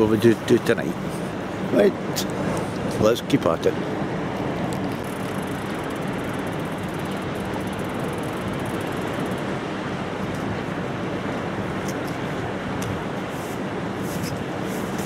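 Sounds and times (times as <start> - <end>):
sea wash: 0.0 - 15.0
wind: 0.0 - 15.0.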